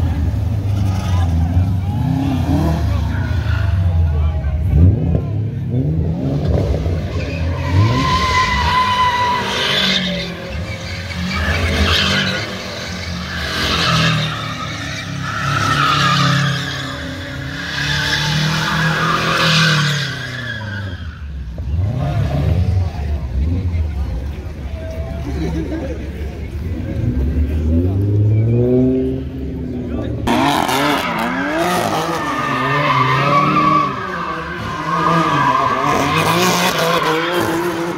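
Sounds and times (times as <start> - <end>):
tyres squealing and skidding: 0.1 - 4.8, 5.7 - 25.6, 30.2 - 37.9.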